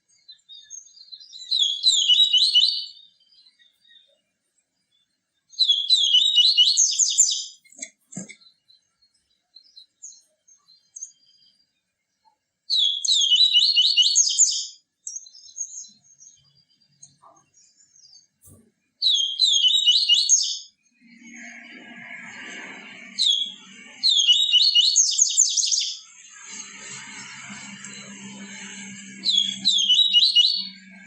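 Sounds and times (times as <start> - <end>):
bird high trilled song: 0.0 - 4.2, 4.9 - 7.6, 8.4 - 11.7, 12.7 - 31.0.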